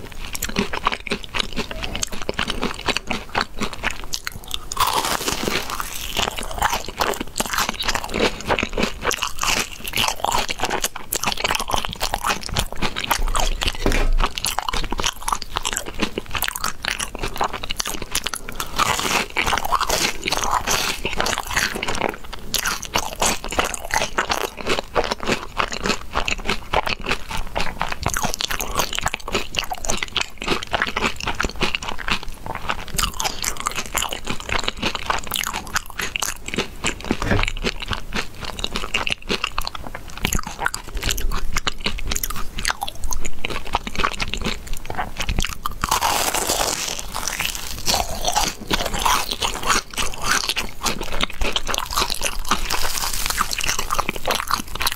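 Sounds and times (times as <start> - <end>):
person chewing crispy food: 0.0 - 54.9.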